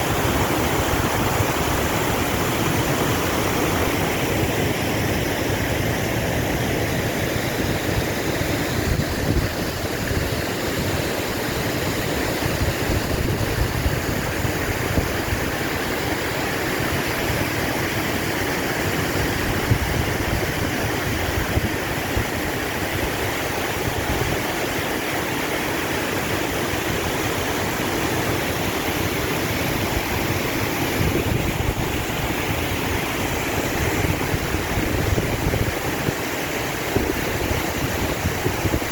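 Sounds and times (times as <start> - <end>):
rushing stream water: 0.0 - 38.9.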